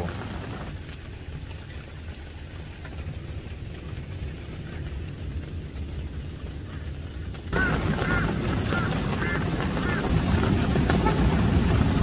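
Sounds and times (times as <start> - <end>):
faint raindrop ticks: 0.0 - 12.0
heavy rain drumming on car roof: 0.0 - 12.0.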